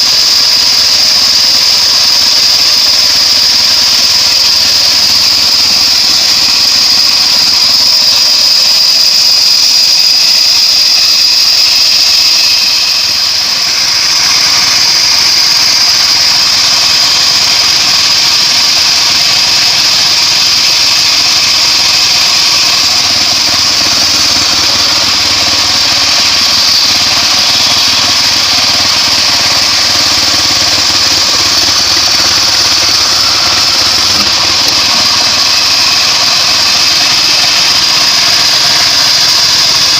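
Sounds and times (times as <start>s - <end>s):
bandsaw sawmill engine and blade: 0.0s - 39.9s.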